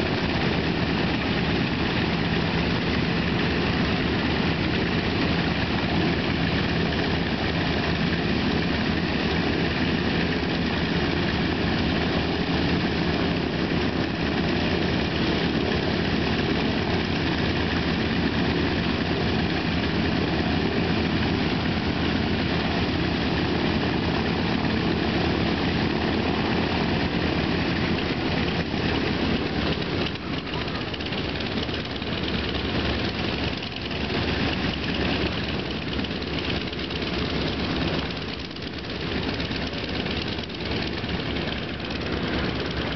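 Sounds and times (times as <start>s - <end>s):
radial engines idling: 0.0s - 42.9s.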